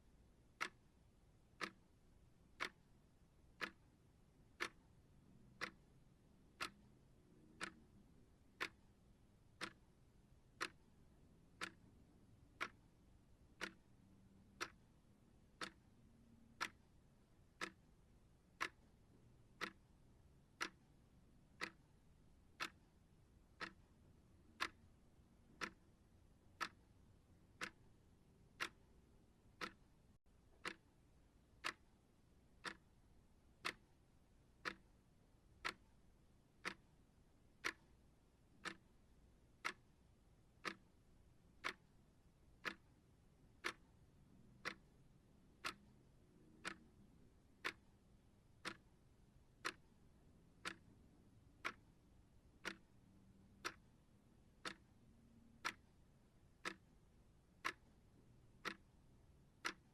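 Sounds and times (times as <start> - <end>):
clock ticking: 0.3 - 59.9.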